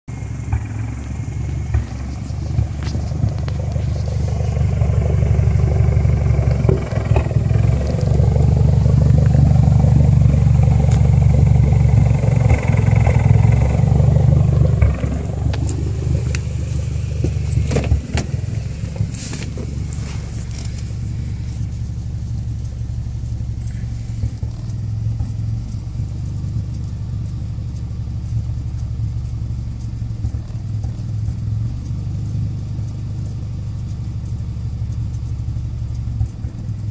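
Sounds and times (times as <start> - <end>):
car engine idling roughly: 0.1 - 36.9.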